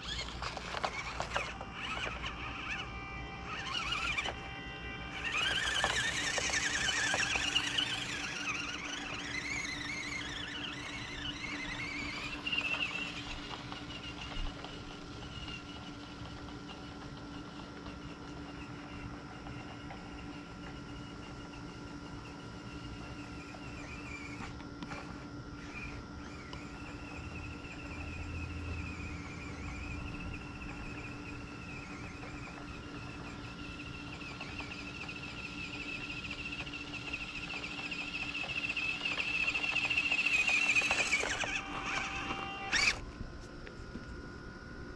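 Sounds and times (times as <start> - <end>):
toy car electric motor whining: 0.0 - 43.1
faint steady hum: 0.0 - 44.9.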